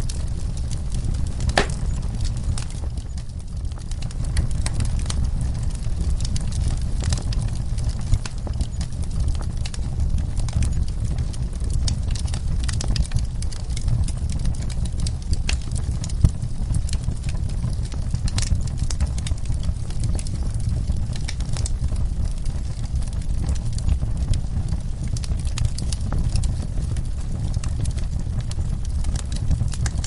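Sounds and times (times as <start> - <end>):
fire crackling and popping: 0.0 - 30.0
low fire rumble: 0.0 - 30.0.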